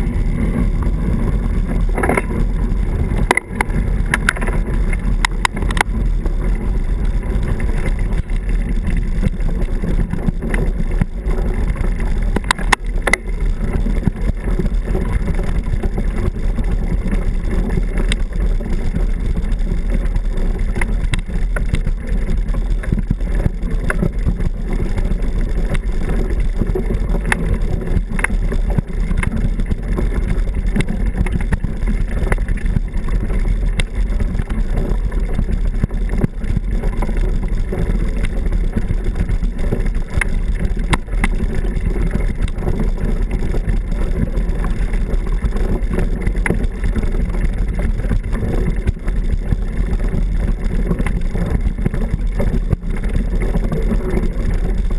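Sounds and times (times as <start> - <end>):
bike rolling over gravel: 0.0 - 54.9
wind rush on microphone: 0.0 - 54.9.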